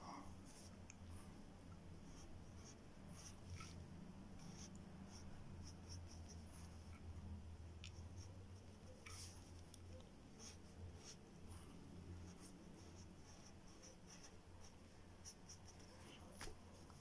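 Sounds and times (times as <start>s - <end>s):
low steady hum: 0.0s - 17.0s
pencil scratching on paper: 2.0s - 7.2s, 7.8s - 17.0s.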